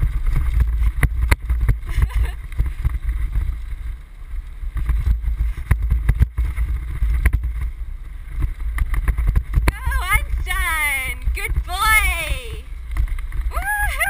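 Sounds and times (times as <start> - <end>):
wind buffeting on camera: 0.0 - 14.0.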